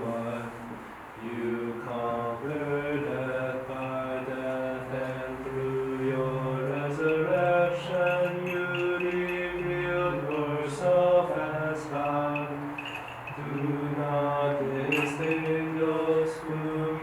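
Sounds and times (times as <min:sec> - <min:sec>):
liturgical chant: 0:00.0 - 0:17.0.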